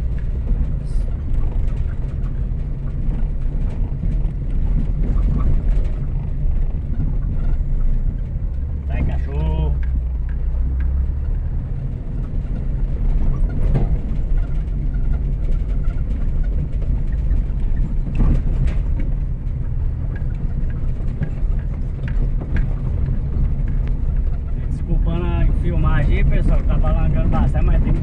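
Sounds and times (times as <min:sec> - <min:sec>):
car engine and tyre rumble: 0:00.0 - 0:28.0
knocks and rattles: 0:00.0 - 0:28.0.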